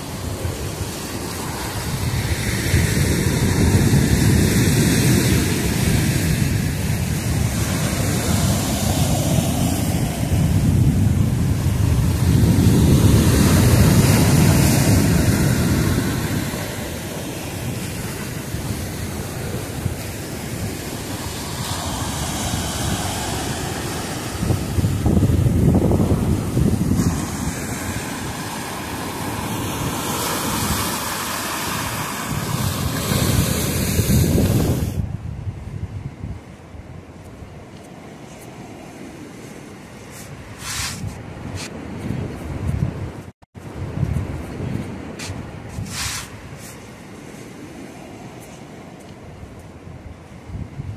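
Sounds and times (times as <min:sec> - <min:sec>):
sea surf breaking on pier: 0:00.0 - 0:50.9
wind buffeting microphone: 0:00.0 - 0:50.9.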